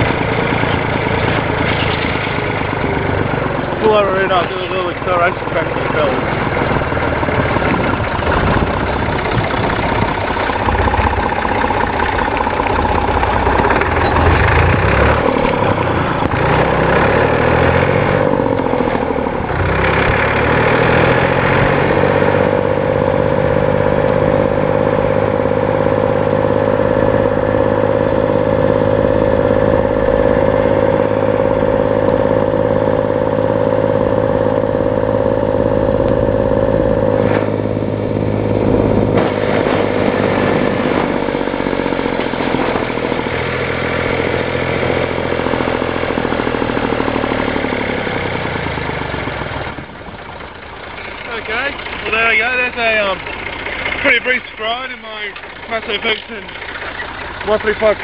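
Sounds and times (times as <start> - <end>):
tractor diesel engine revving: 0.0 - 58.0.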